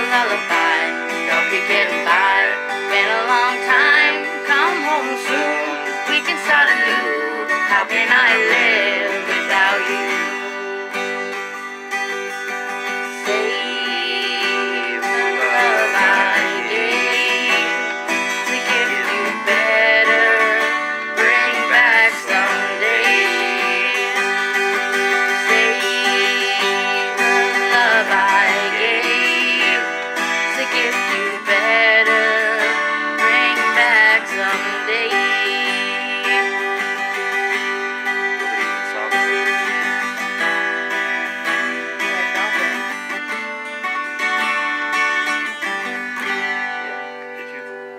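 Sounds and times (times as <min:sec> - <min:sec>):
woman singing: 0:00.0 - 0:11.3, 0:12.9 - 0:43.0
acoustic guitar strumming: 0:00.0 - 0:47.9.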